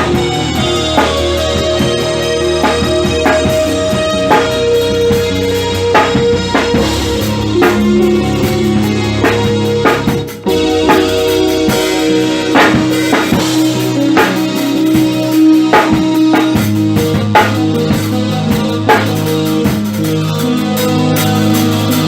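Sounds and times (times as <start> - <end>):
drum kit beat: 0.0 - 22.0
held low notes: 0.0 - 22.0.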